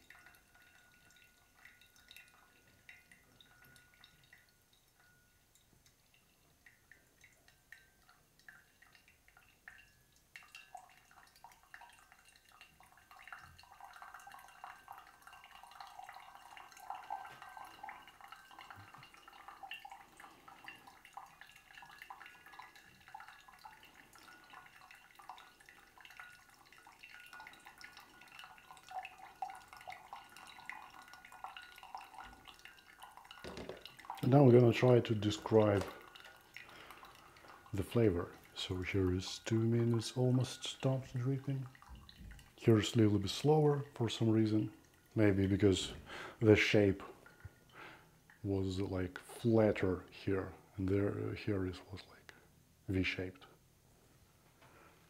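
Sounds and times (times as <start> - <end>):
coffee dripping into carafe: 0.0 - 51.8
water trickling onto coffee: 0.0 - 53.4.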